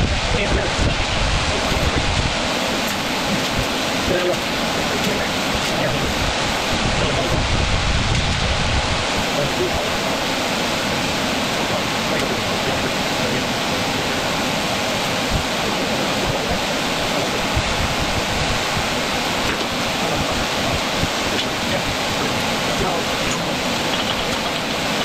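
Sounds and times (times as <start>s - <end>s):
large fan rushing air: 0.0s - 25.0s.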